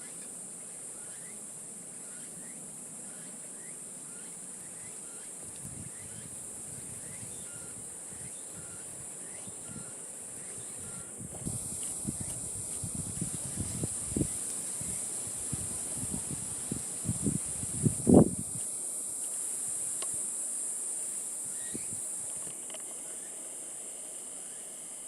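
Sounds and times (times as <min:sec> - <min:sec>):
insect chorus chirping: 0:00.0 - 0:25.0.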